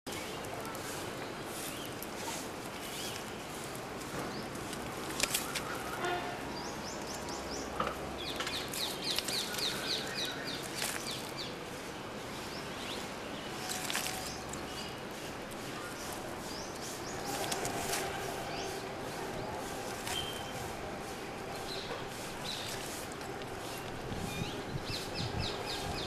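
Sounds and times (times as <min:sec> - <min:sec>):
steady background noise: 0:00.1 - 0:26.0.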